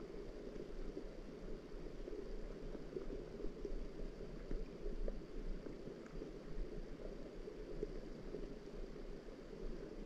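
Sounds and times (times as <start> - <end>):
faint ticks: 0.0 - 10.0
muffled water noise: 0.0 - 10.0.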